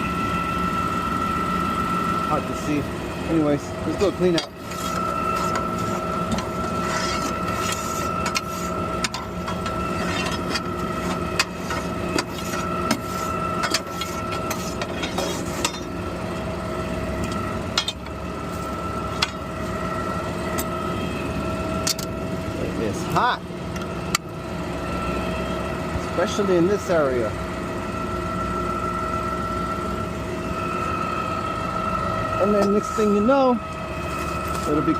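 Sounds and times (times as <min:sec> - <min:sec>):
hydraulic pump whine: 0:00.0 - 0:34.9.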